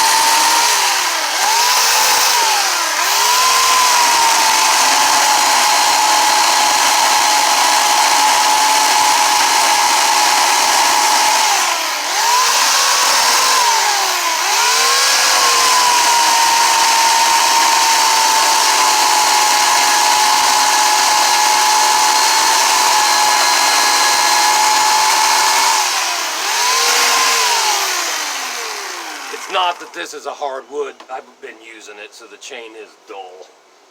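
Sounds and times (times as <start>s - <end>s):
chainsaw cutting wood: 0.0s - 30.1s.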